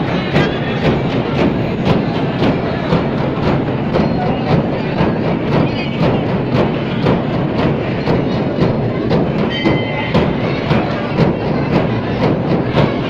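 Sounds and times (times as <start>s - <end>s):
dense crowd noise: 0.0s - 13.0s
procession drums beating: 0.0s - 13.0s.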